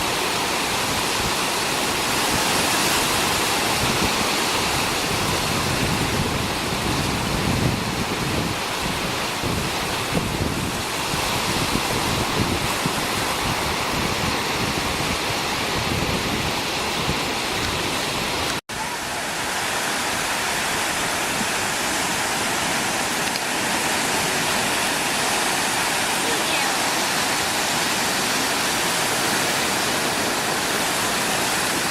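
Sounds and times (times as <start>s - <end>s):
steady rushing noise: 0.0s - 31.9s.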